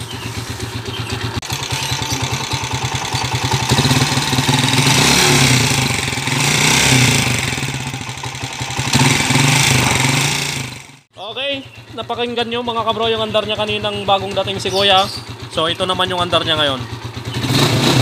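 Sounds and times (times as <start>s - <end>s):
motorcycle engine revving: 0.0s - 18.0s
engine knocking clacking: 0.1s - 18.0s.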